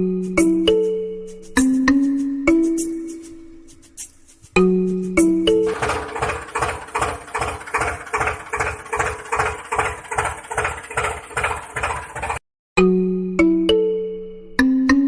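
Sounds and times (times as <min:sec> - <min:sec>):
tractor engine chugging: 0:00.3 - 0:12.4.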